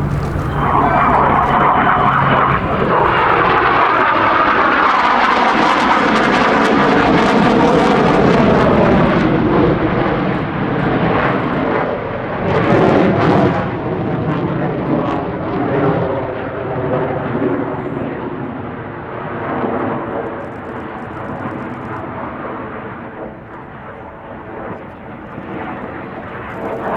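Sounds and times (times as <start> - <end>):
jet flying past: 0.0 - 26.9.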